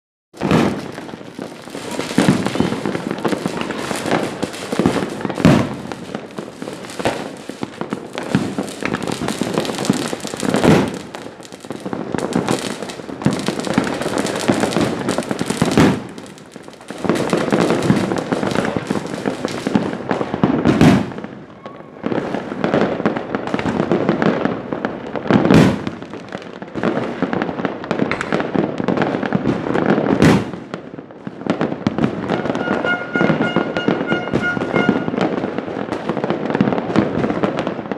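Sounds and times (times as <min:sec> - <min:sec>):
fireworks booms: 0:00.4 - 0:37.9
fireworks crackling: 0:00.4 - 0:37.9.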